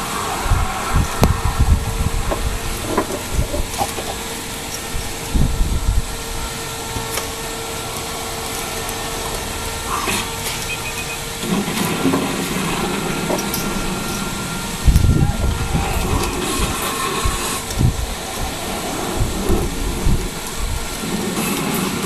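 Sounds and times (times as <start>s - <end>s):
faint constant hum: 0.0s - 22.0s
steady hiss: 0.0s - 22.0s.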